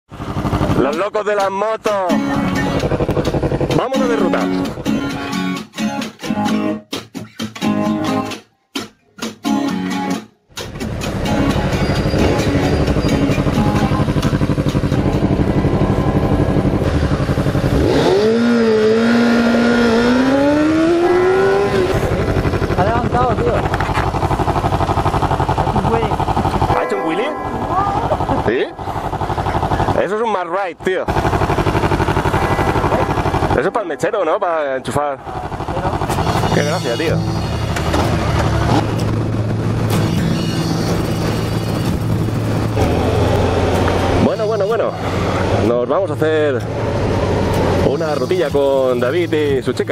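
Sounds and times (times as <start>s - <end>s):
motorcycle engine idling and revving: 0.1s - 5.4s, 10.5s - 49.9s.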